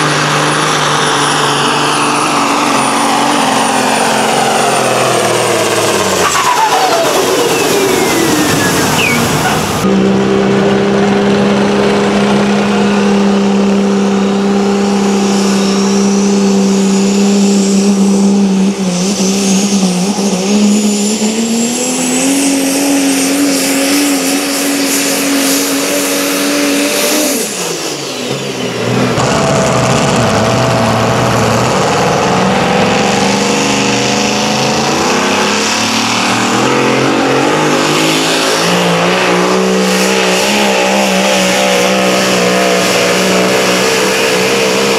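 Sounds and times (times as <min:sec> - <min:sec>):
vehicle engine working under load: 0:00.0 - 0:44.9.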